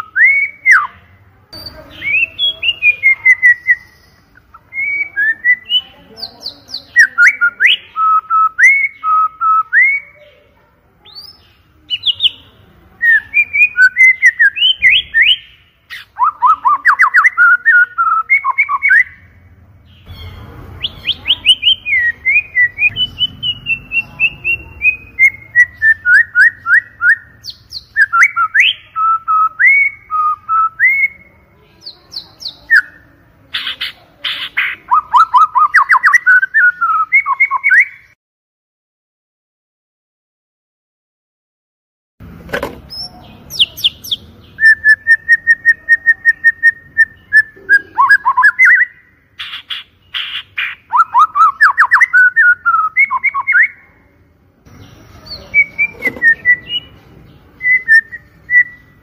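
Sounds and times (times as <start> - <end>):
bird singing whistled song: 0.0 - 1.0, 1.6 - 10.3, 11.0 - 33.0, 34.6 - 38.2, 42.9 - 53.9, 54.7 - 57.0, 57.6 - 59.0.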